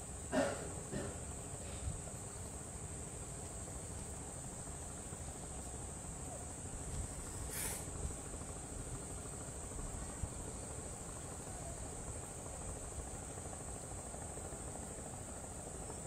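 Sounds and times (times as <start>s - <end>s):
insects chirping: 0.0s - 16.0s
low background rumble: 0.0s - 16.0s.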